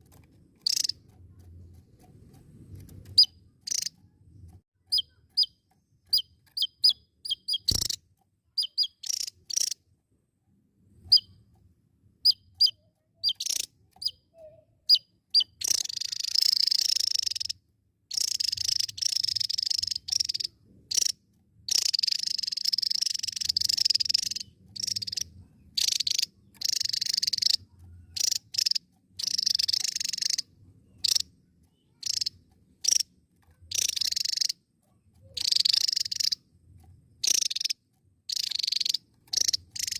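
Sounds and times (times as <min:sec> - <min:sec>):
bird chirping and trilling: 0:00.6 - 0:01.1, 0:02.8 - 0:04.1, 0:04.8 - 0:09.8, 0:11.0 - 0:11.4, 0:12.2 - 0:36.5, 0:37.2 - 0:39.9.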